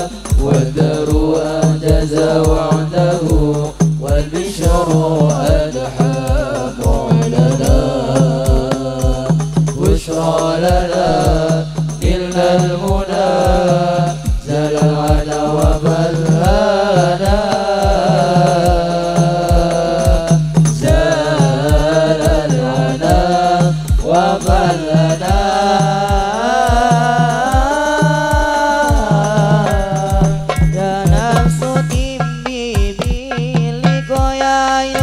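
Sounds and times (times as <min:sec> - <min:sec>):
hand drums beating: 0:00.0 - 0:35.0
men singing through loudspeakers: 0:00.0 - 0:35.0.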